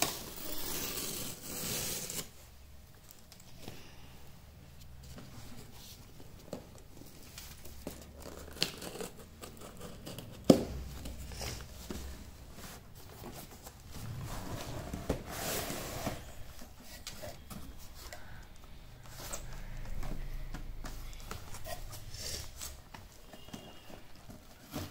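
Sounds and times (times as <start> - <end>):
cardboard and plastic rustling: 4.7 - 24.9.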